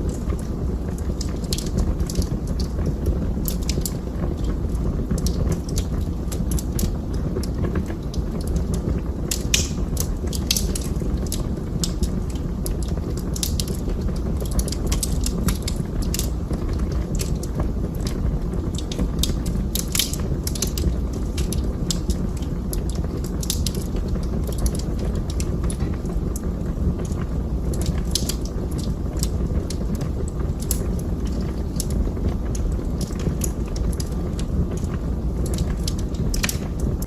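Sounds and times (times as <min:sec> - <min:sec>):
low rumble of burning: 0:00.0 - 0:37.0
wood fire crackling: 0:00.0 - 0:37.0.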